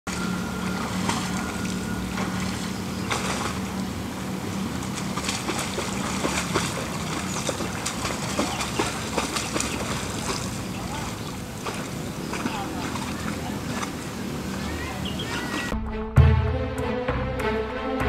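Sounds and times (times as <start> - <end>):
bicycle splashing through water: 0.1 - 15.7
low hum: 0.1 - 16.7.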